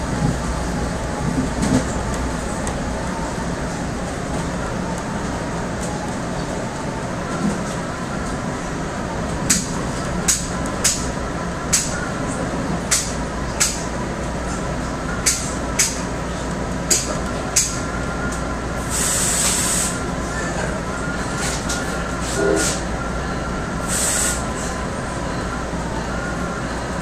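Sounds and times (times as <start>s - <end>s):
train running rumble: 0.0s - 27.0s.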